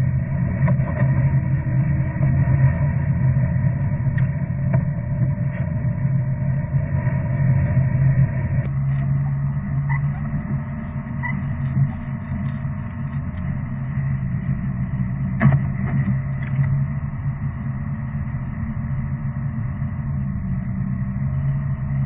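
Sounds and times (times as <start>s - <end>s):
vehicle engine and road hum: 0.0s - 22.0s.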